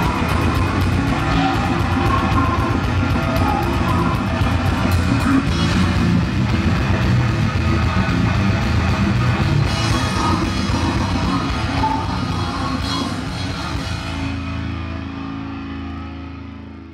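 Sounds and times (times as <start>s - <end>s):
rock band playing: 0.0s - 16.9s.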